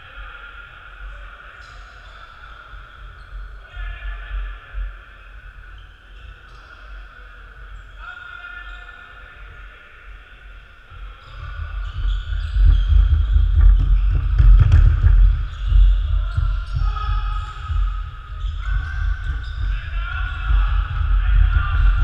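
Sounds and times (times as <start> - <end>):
voices in background: 0.0 - 22.0.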